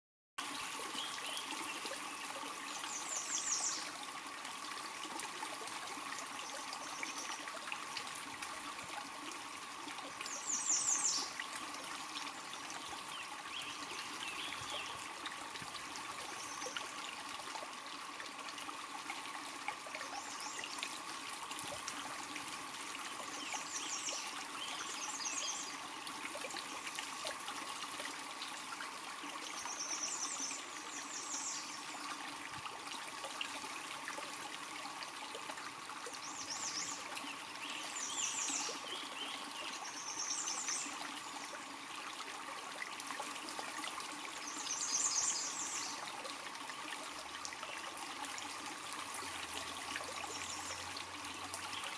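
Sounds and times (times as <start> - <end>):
creek babbling over rocks: 0.4 - 51.9.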